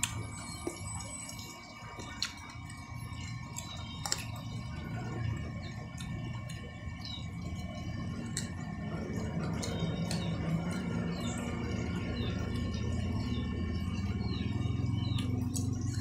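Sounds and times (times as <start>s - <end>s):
wet chewing clicks and smacks: 0.0s - 16.0s.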